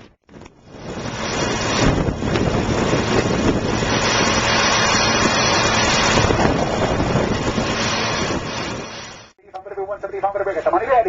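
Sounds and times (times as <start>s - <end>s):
wind buffeting microphone: 0.3s - 9.3s.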